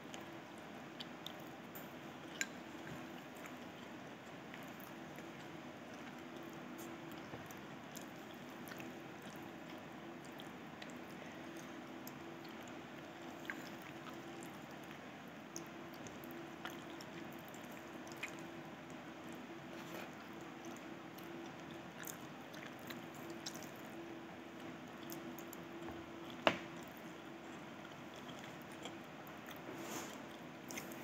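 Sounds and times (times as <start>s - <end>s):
faint steady hum: 0.0s - 31.0s
food being chewed: 0.0s - 31.0s.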